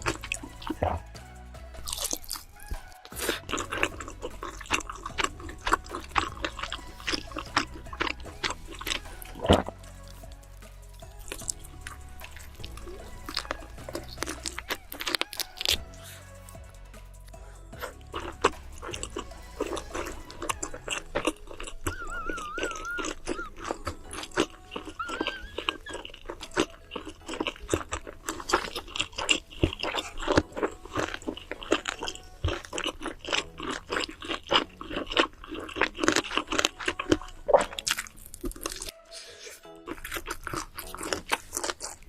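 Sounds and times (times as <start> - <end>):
crunchy food chewing: 0.0 - 42.0.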